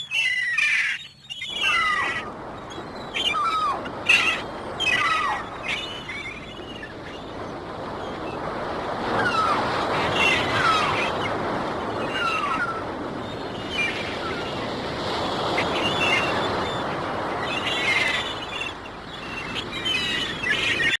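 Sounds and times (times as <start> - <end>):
gulls crying: 0.0 - 21.0
ocean waves washing on shore: 1.1 - 21.0.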